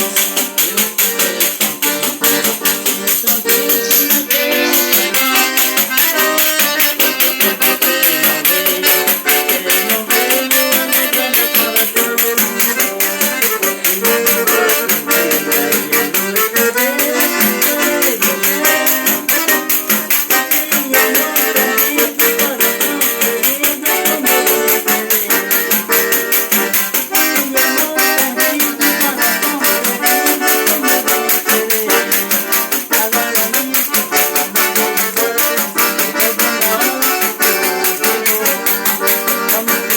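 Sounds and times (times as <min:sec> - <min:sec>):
accordion melody and chords: 0:00.0 - 0:39.9.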